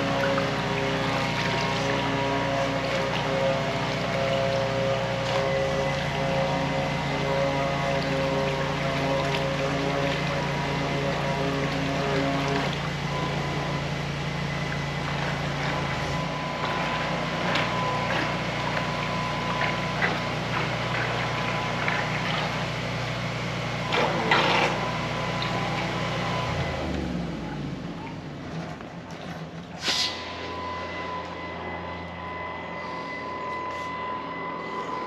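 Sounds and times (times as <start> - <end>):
model boat engine hum: 0.0 - 35.0.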